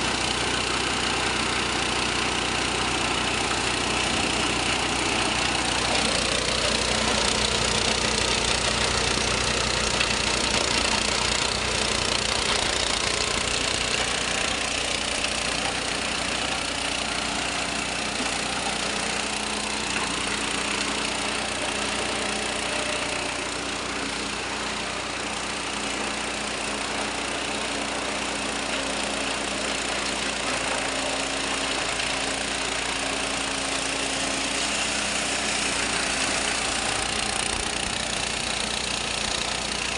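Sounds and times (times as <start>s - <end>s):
grinding mill grinding: 0.0s - 39.9s.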